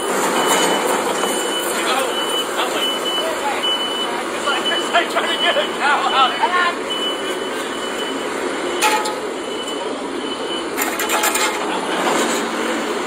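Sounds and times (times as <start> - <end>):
reversing alarm beeps: 0.0 - 12.2
machinery rumble: 0.0 - 13.0.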